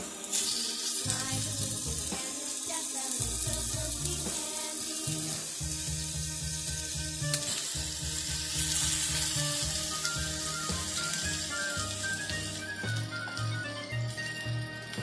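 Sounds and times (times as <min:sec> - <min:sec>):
background music with bass: 0:00.0 - 0:15.0
meat sizzling in a pot: 0:00.0 - 0:15.0.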